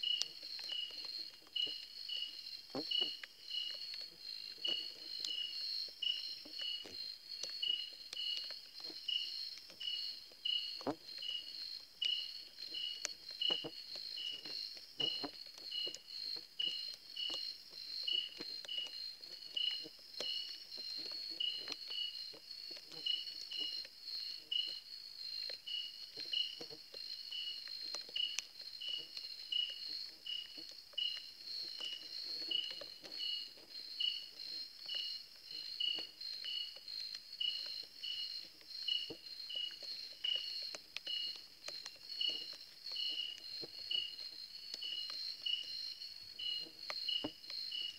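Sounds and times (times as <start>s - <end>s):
insect chirping in pulses: 0.0s - 47.9s
insect high-pitched trill: 0.0s - 47.9s.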